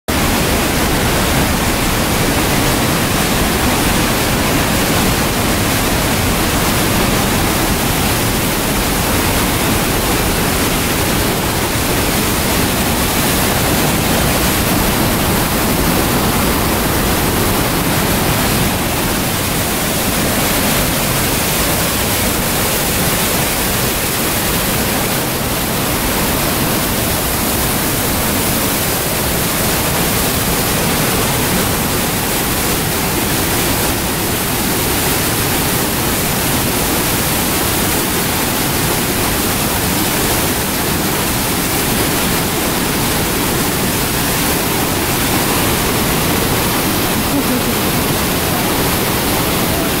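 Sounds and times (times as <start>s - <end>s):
waterfall roaring: 0.1s - 50.0s.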